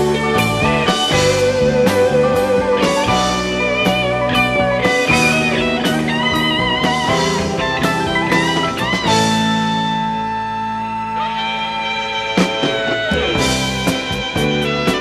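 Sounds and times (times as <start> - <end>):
drums and bass beat: 0.0 - 15.0
electric guitar solo: 0.0 - 15.0.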